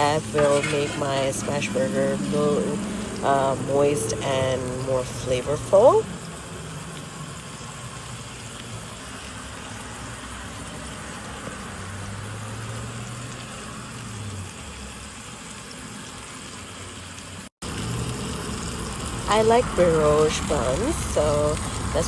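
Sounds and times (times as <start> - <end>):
burger patties sizzling on griddle: 0.0 - 22.0.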